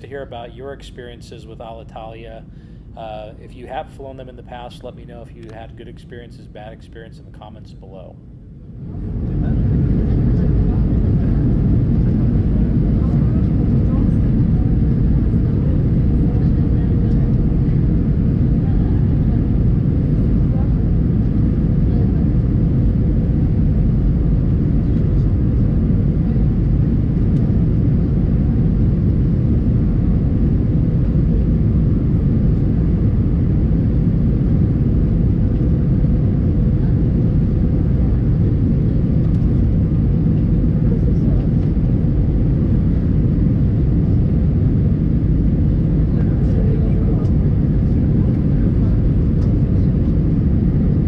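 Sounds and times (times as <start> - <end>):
airliner cabin engine rumble: 0.0 - 51.0
faint steady hum: 0.0 - 51.0.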